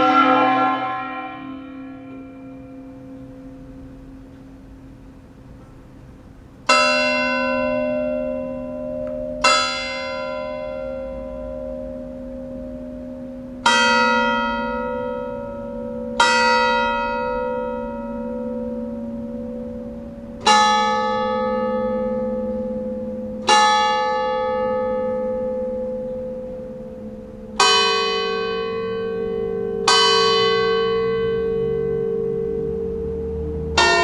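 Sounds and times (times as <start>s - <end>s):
church bell tolling: 0.0s - 34.0s.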